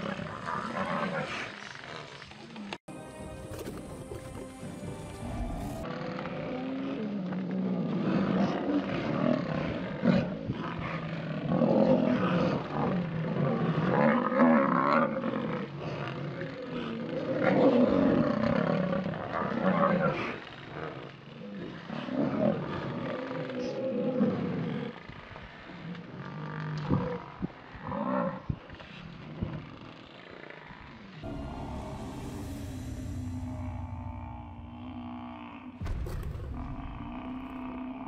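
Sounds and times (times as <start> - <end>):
lions growling and snarling: 0.0 - 2.7, 5.2 - 38.0.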